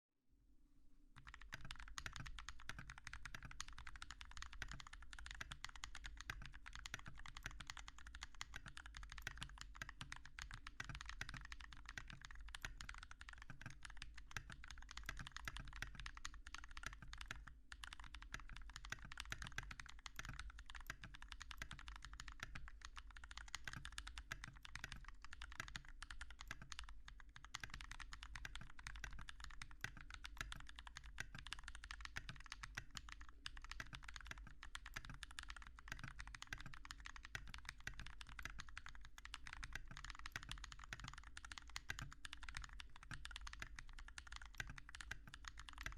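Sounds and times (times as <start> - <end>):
mechanical keyboard typing: 1.2 - 45.9.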